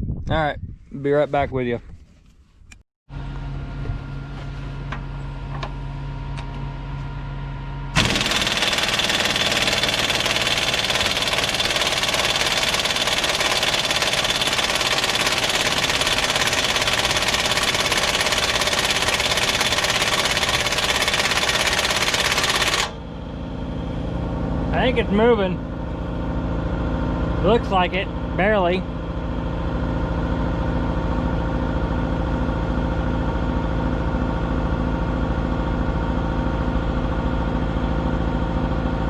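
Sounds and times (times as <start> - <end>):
diesel engine running: 3.1 - 39.0.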